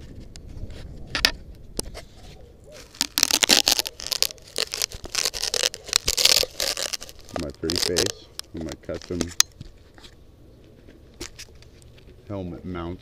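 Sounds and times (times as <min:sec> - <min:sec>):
camera handling scraping: 0:00.0 - 0:12.2.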